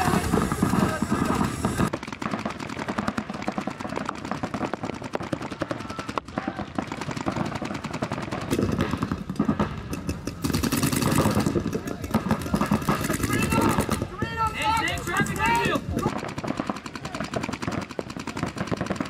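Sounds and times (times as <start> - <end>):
paintball markers firing: 0.0 - 19.0.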